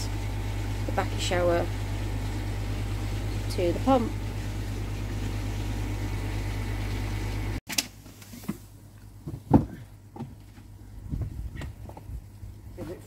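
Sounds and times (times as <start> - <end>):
electrical hum of filtration equipment: 0.0 - 13.0.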